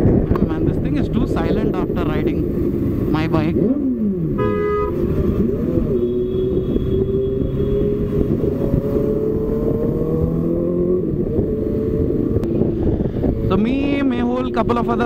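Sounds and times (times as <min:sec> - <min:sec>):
motorcycle engines running: 0:00.0 - 0:15.0
road and wind noise: 0:00.0 - 0:15.0.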